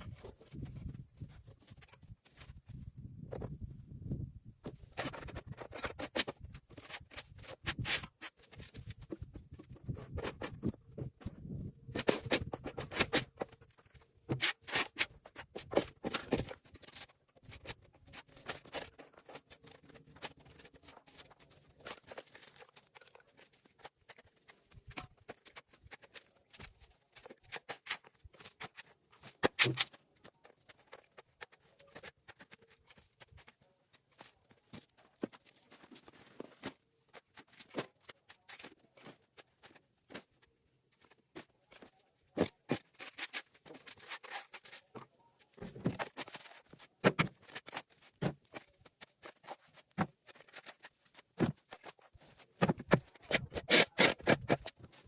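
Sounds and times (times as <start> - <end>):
clicks scrapes and rustles: 4.7 - 55.0.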